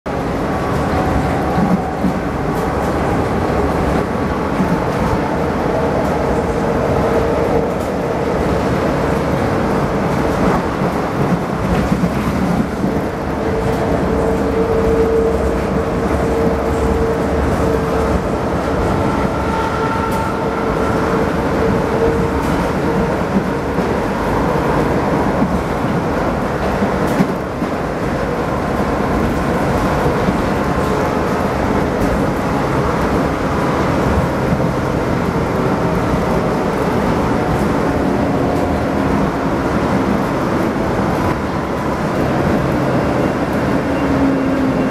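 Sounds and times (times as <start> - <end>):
light-rail wheels rumbling on rails: 0.1 - 44.9.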